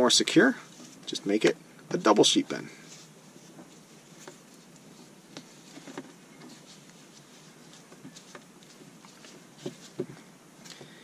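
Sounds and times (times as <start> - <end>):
rope rustling and scuffing: 0.6 - 10.9.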